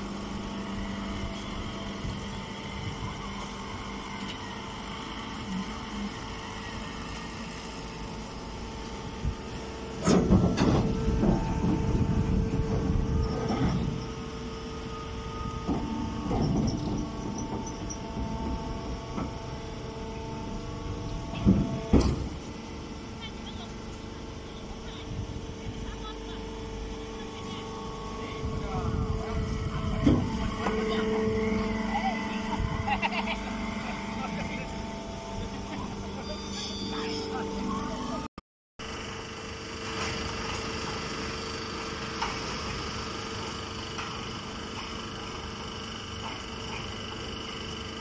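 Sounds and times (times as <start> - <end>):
baler machine humming: 0.0 - 48.0
loud rough machine noise: 0.0 - 48.0.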